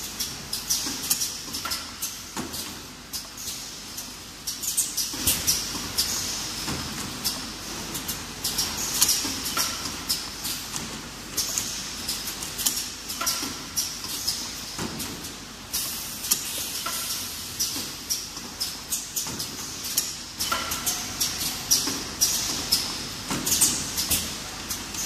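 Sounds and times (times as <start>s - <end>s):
bottles clacking on conveyor: 4.5s - 25.0s.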